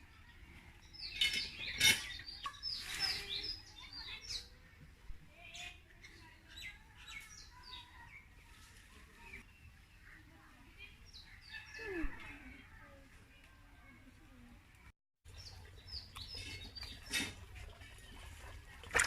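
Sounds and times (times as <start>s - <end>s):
small birds chirping: 0.2s - 18.2s.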